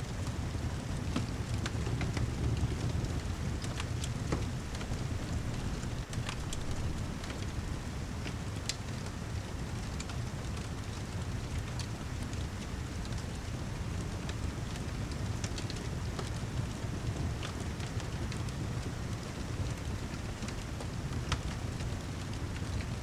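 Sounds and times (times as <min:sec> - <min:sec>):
steady rain falling: 0:00.0 - 0:23.0
fireplace crackling and popping: 0:00.1 - 0:23.0.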